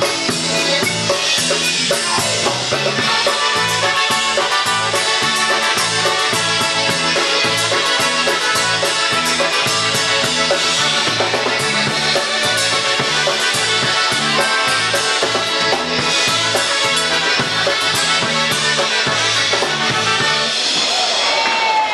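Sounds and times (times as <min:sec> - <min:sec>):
live polka band playing: 0:00.0 - 0:21.9.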